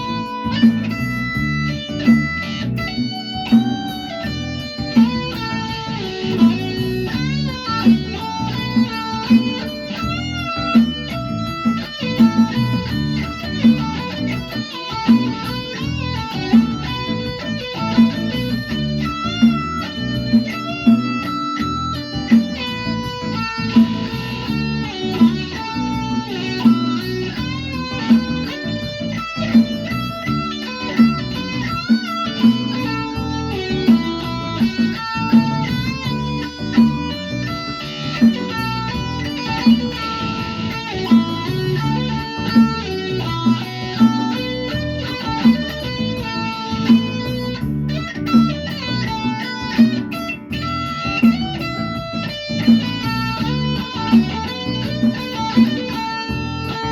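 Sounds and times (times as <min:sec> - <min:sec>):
plucked guitar melody: 0:00.0 - 0:56.9.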